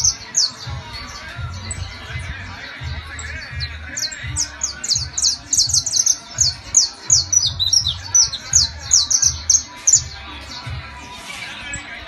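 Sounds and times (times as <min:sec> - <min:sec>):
finch singing high notes: 0:00.0 - 0:12.0.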